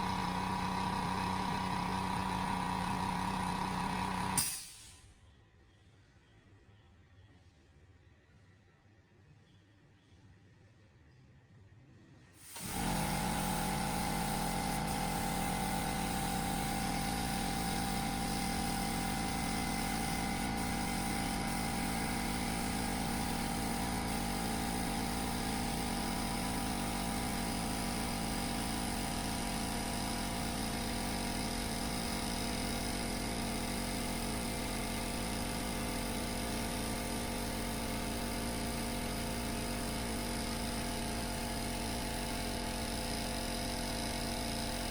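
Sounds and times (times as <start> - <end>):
air compressor running: 0.0 - 5.0, 12.4 - 44.9.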